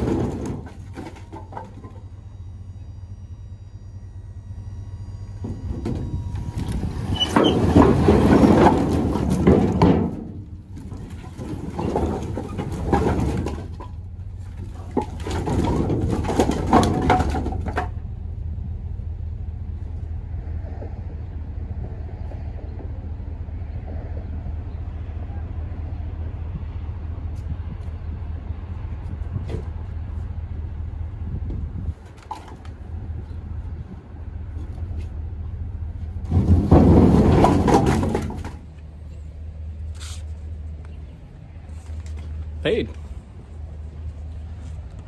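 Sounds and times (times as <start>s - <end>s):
truck engine and road drone: 0.0s - 45.0s.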